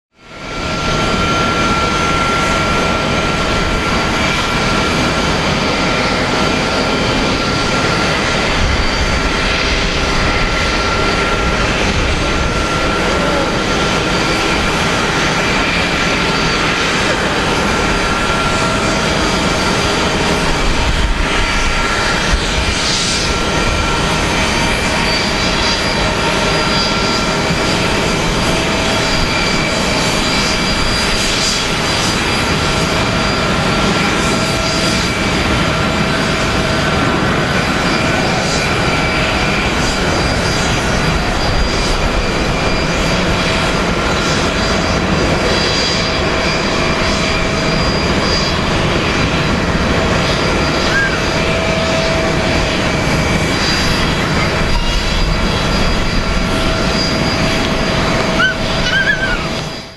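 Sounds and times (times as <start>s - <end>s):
jet engine whine: 0.1s - 59.9s
jet engines roaring: 0.1s - 59.9s.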